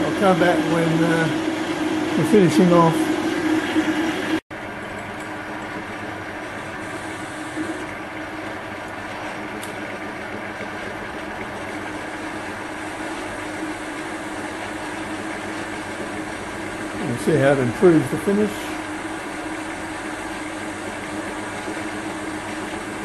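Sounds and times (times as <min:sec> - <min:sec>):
metal lathe running: 0:00.0 - 0:23.0.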